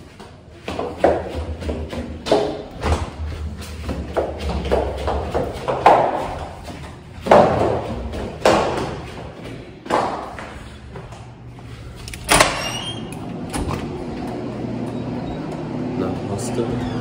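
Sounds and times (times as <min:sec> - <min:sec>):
footsteps in echoing stairwell: 0:00.0 - 0:17.0.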